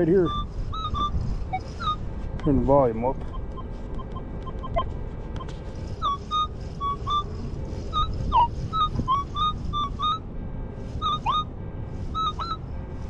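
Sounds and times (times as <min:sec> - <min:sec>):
metal detector beeps: 0:00.0 - 0:02.1, 0:03.2 - 0:10.2, 0:10.8 - 0:12.6.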